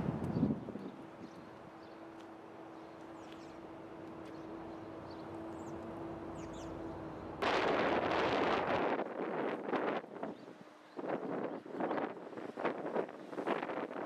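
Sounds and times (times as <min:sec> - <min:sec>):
wind buffeting microphone: 0:00.0 - 0:01.9, 0:04.0 - 0:14.0.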